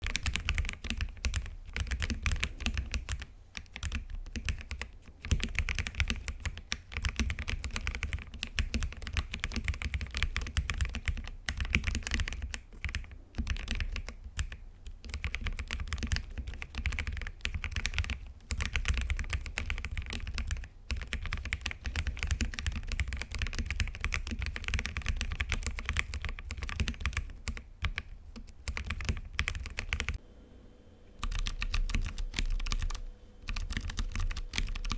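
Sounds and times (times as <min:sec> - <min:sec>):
mechanical keyboard typing: 0:00.0 - 0:30.2, 0:31.2 - 0:34.9.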